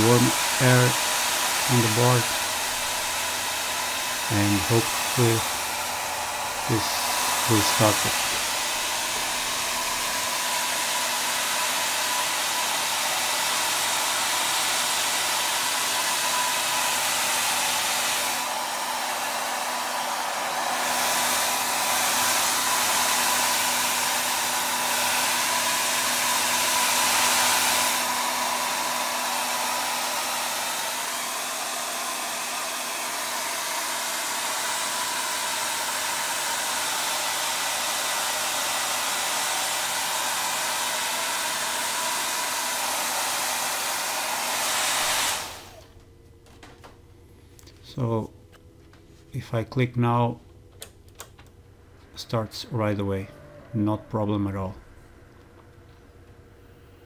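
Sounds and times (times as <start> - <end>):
hair dryer blowing: 0.0 - 46.3, 51.9 - 57.0.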